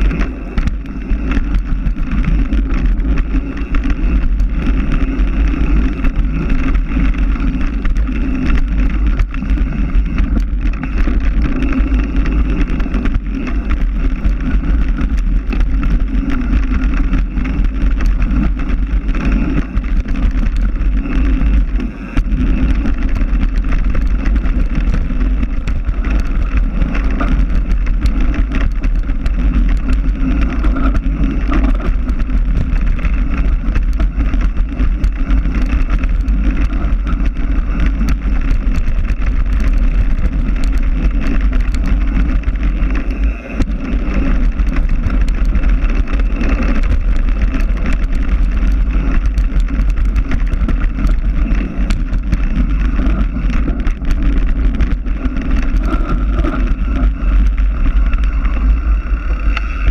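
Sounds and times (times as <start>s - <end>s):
bike rattles and clicks: 0.0s - 59.9s
tyre running over dirt: 0.0s - 59.9s
wind buffeting microphone: 0.0s - 59.9s.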